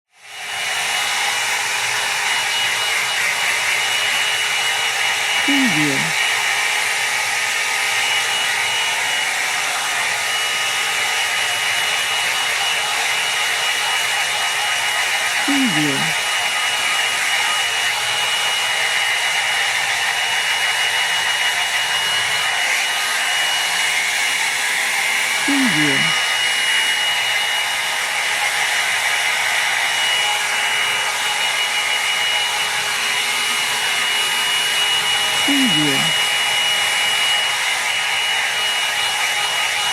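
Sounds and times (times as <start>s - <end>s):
hair dryer running: 0.2s - 39.9s.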